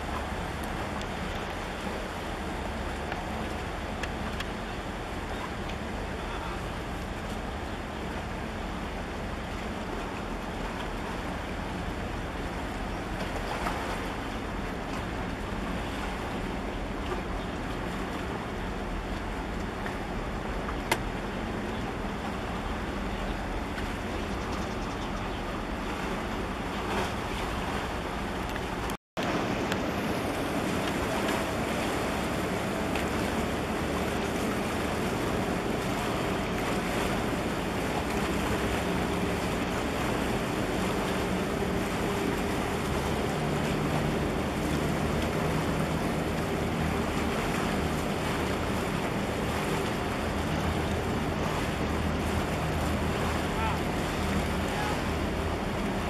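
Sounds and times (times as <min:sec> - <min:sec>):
water washing against breakwater: 0:00.0 - 0:56.0.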